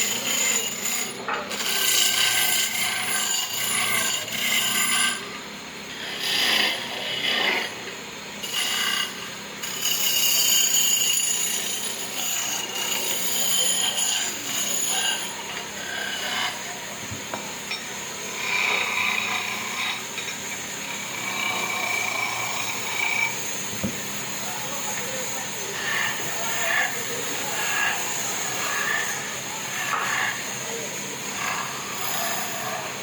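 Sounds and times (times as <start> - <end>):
saw cutting wood: 0.0 - 33.0.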